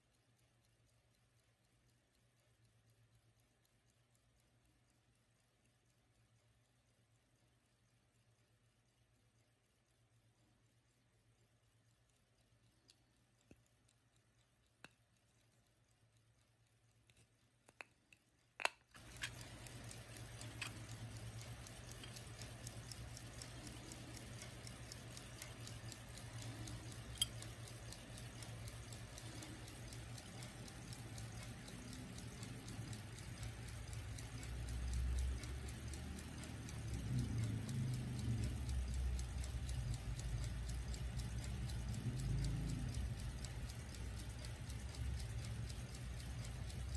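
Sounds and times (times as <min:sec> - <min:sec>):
pocket watch ticking: 0:00.0 - 0:46.9.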